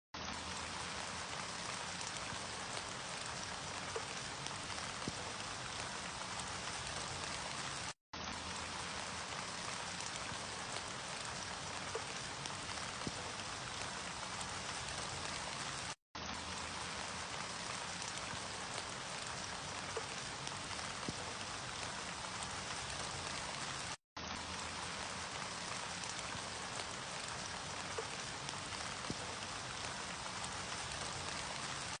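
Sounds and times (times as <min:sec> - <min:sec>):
steady rainfall hiss: 0:00.2 - 0:32.0.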